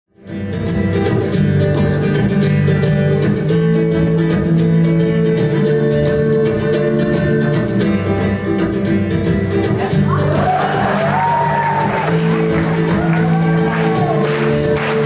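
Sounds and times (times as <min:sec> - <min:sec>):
flamenco guitar playing: 0:00.2 - 0:15.0.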